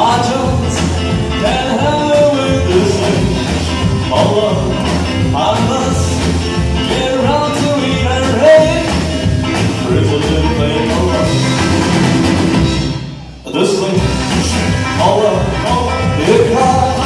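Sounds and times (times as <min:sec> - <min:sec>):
electric guitar: 0:00.0 - 0:17.0
live rock and roll band: 0:00.0 - 0:17.0
upright double bass: 0:00.0 - 0:17.0.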